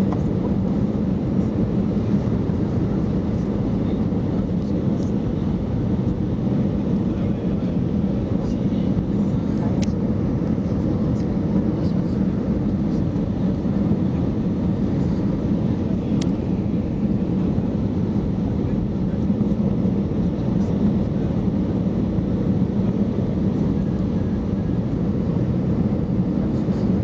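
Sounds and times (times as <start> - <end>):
airliner engine rumble: 0.0 - 27.0.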